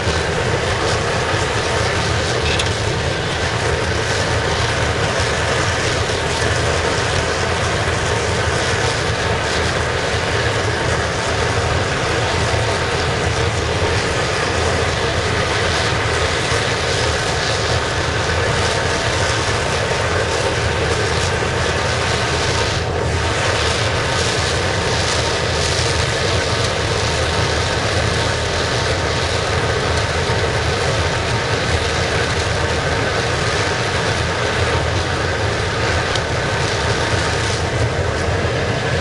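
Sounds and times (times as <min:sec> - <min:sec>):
burner flame roaring: 0:00.0 - 0:39.0.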